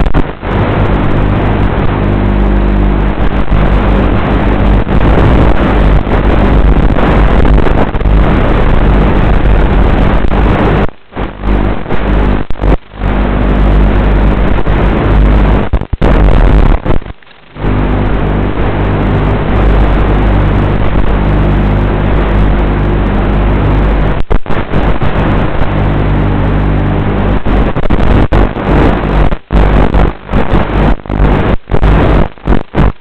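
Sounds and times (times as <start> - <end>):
low buzz: 0.0 - 33.0
static hiss: 0.0 - 33.0.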